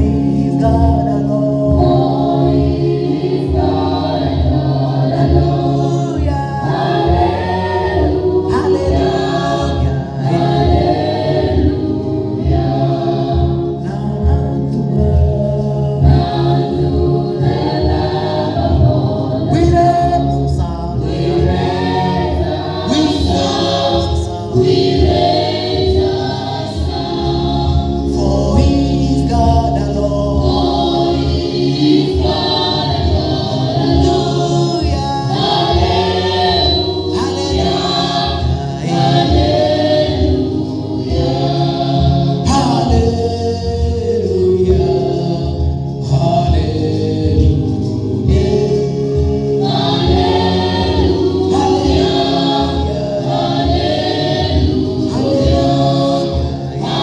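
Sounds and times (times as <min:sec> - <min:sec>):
instrumental backing with bass: 0:00.0 - 0:57.0
voices singing gospel song: 0:00.0 - 0:57.0.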